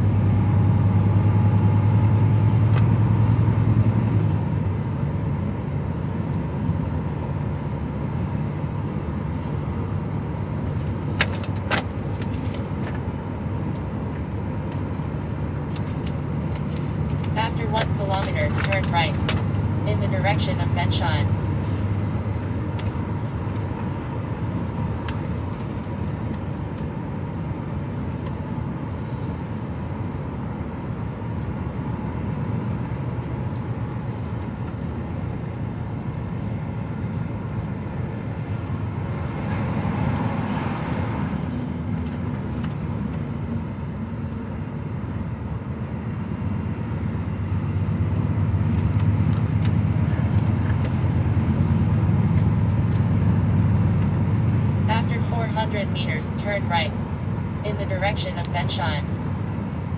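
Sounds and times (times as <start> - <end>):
diesel engine drone: 0.0 - 59.9
tyre and road noise: 0.0 - 59.9.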